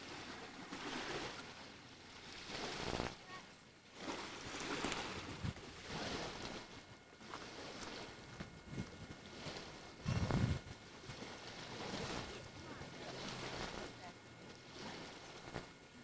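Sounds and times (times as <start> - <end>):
lake water lapping: 0.0 - 16.0.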